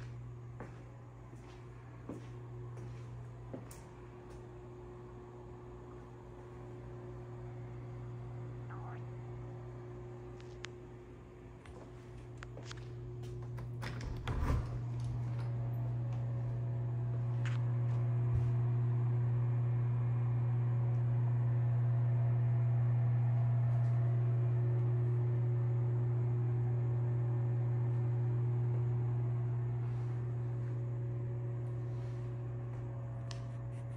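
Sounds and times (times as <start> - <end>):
ventilation fan hum: 0.0 - 33.9.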